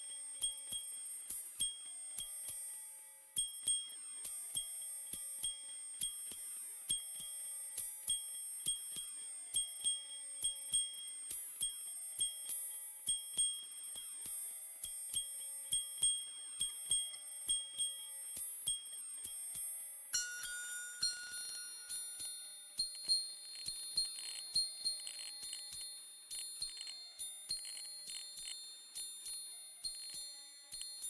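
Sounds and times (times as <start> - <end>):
high-pitched steady tone: 0.0 - 31.0.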